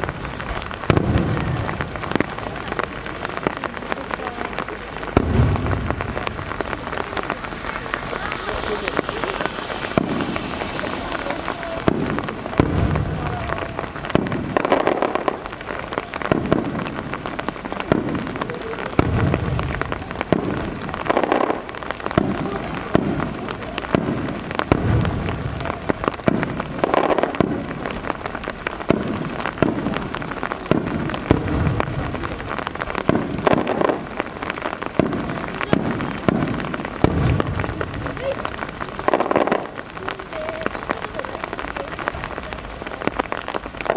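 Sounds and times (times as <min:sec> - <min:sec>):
fine crackling: 0:00.0 - 0:43.9
fireworks booming: 0:00.0 - 0:43.9
rain pattering: 0:00.0 - 0:43.9.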